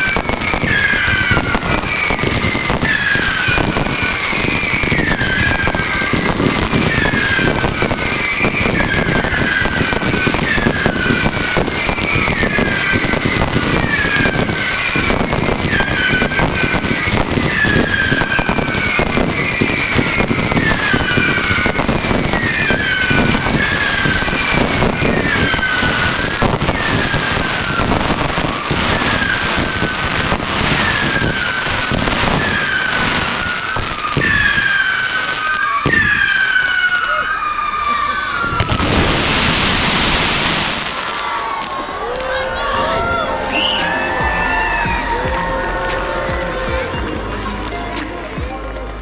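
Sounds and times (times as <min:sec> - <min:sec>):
fireworks crackling and banging: 0:00.0 - 0:49.0
whistling fireworks: 0:00.0 - 0:49.0.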